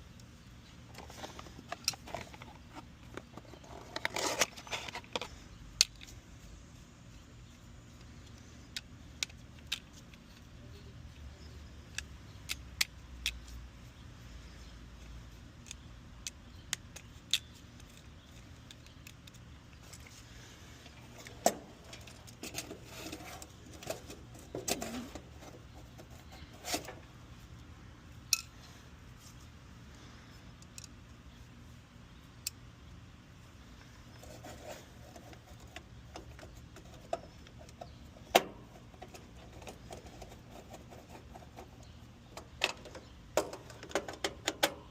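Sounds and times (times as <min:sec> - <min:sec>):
faint low hum: 0:00.0 - 0:44.9.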